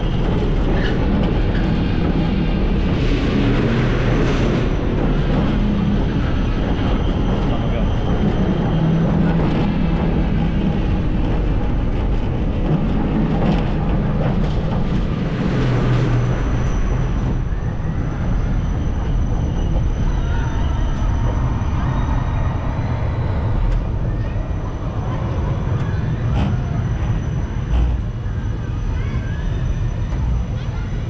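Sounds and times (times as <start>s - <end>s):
cart rumbling on metal track: 0.0s - 31.0s.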